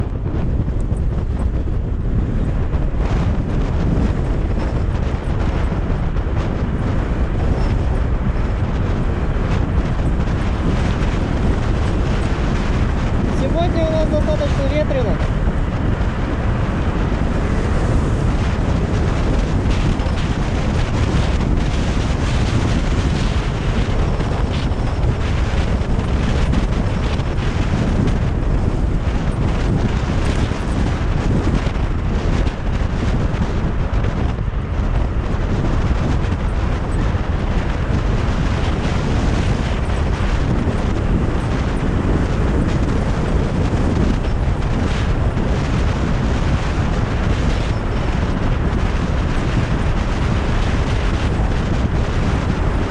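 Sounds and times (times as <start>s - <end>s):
strong wind roaring on microphone: 0.0s - 52.9s.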